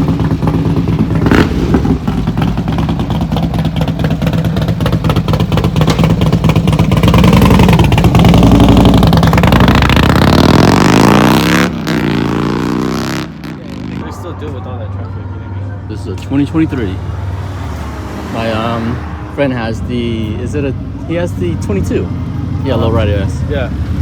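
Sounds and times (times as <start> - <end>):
motorcycle engine revving: 0.0 - 14.5, 16.0 - 24.0.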